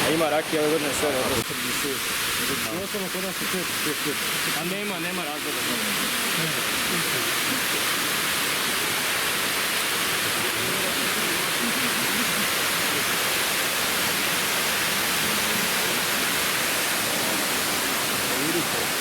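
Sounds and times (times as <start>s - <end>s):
falling water rushing: 0.0s - 19.0s.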